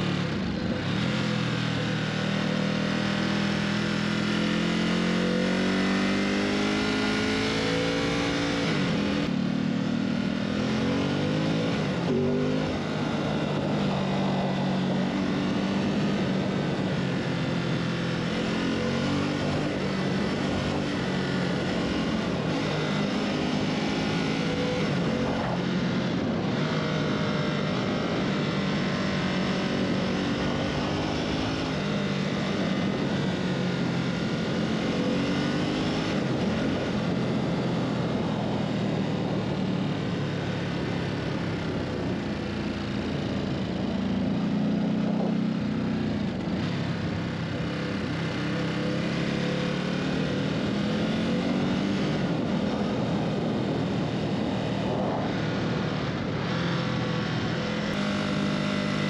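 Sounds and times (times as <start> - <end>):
motorcycle engine running: 0.0 - 59.0
steady rushing noise: 6.8 - 59.0.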